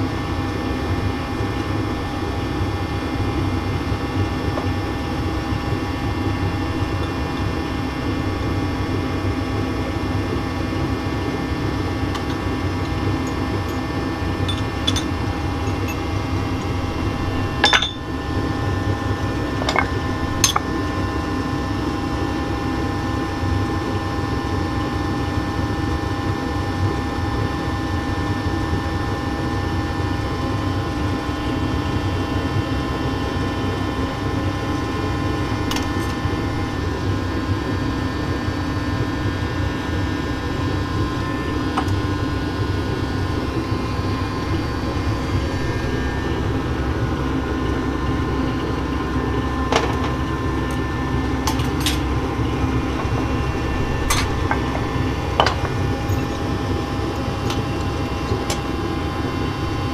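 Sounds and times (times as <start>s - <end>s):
machine hum with held tones: 0.0s - 59.9s.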